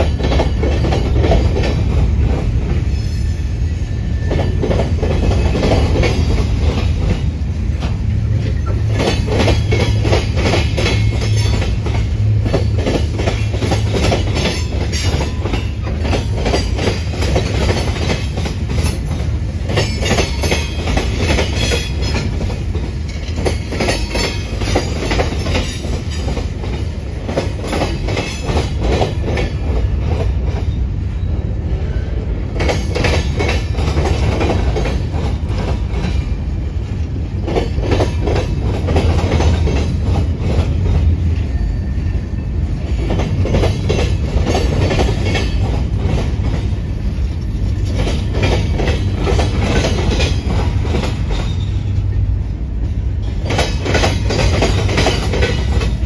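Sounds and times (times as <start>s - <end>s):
train wheels rumbling on rail: 0.0s - 56.0s
freight cars clicking and clanking: 4.2s - 30.8s, 32.5s - 36.4s, 37.1s - 42.0s, 42.6s - 52.2s, 52.9s - 56.0s.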